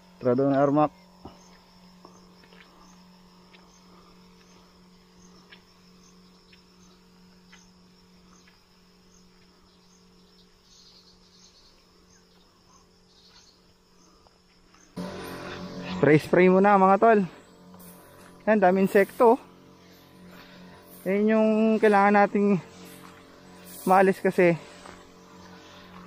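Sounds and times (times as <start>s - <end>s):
insects trilling: 0.0s - 26.0s
low steady hum: 0.0s - 26.0s.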